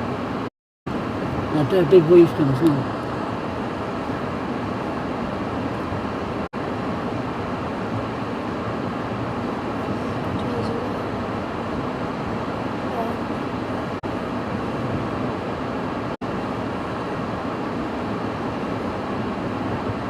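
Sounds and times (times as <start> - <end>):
storm wind roaring: 2.9 - 20.0.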